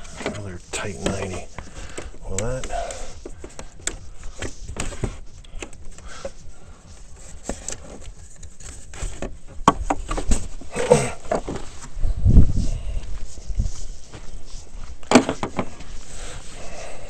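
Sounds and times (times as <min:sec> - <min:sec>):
hands handling rubber hose: 0:00.0 - 0:11.9, 0:13.0 - 0:16.6.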